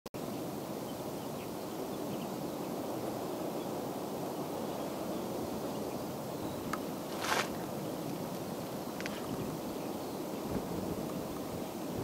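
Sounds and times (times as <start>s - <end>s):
steady outdoor rushing noise: 0.2s - 12.0s.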